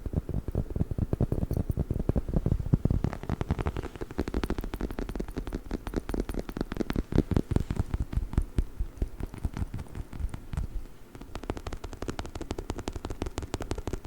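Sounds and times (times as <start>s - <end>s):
fingers tapping and scratching toy: 0.0s - 14.0s.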